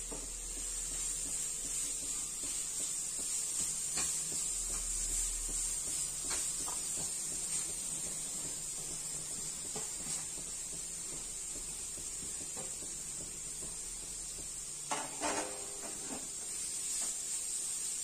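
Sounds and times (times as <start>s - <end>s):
ghee sizzling in a pan: 0.0s - 18.0s.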